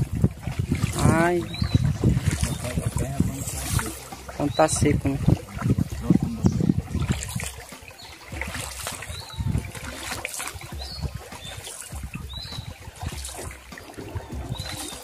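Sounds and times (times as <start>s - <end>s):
canoe paddle dipping in water: 0.0s - 15.0s
water dripping off paddle: 0.0s - 15.0s.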